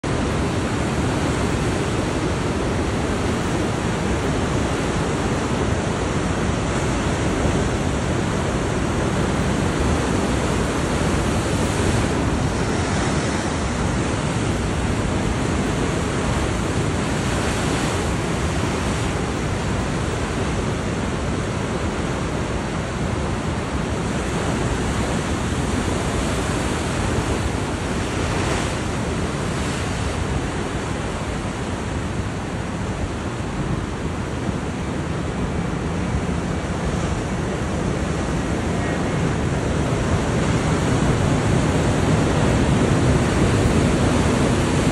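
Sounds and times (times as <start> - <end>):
storm surf breaking: 0.0 - 44.9
wind on microphone: 0.0 - 44.9.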